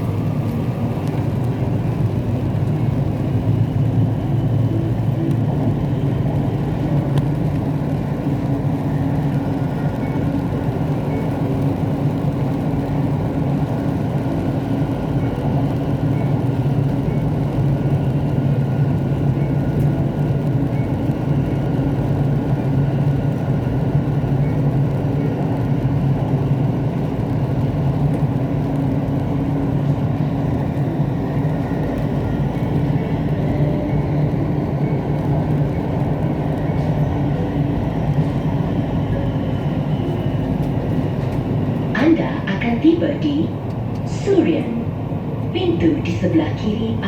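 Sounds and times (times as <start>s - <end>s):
metro train wheels rumbling on rail: 0.0s - 47.0s.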